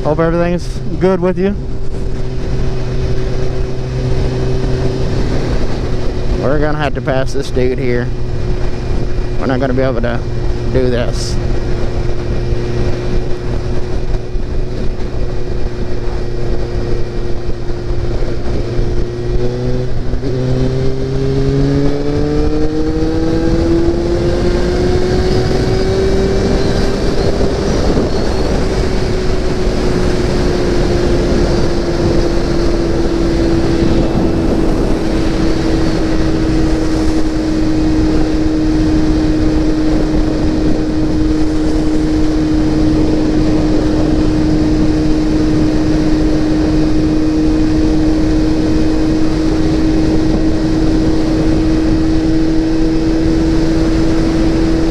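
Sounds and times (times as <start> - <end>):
motorcycle engine accelerating: 0.0 - 54.9
wind noise on microphone: 0.0 - 54.9.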